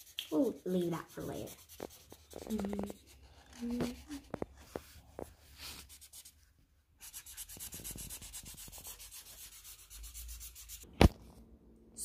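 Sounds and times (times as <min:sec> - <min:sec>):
felt-tip markers scribbling on paper: 0:00.0 - 0:06.4, 0:07.0 - 0:10.8.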